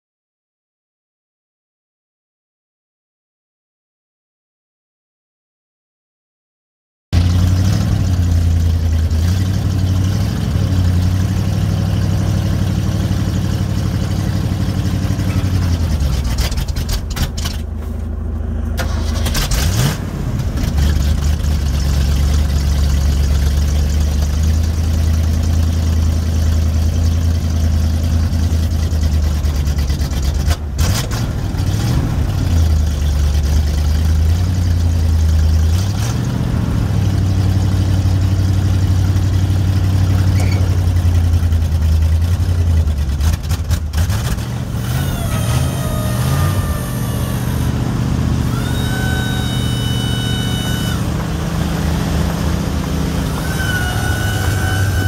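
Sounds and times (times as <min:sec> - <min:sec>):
truck engine running: 0:07.2 - 0:55.0.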